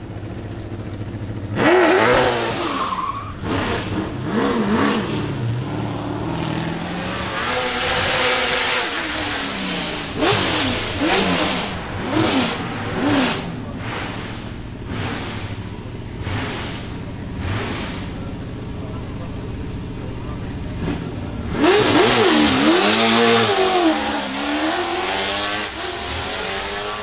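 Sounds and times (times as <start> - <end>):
race car engine revving: 1.3 - 27.0.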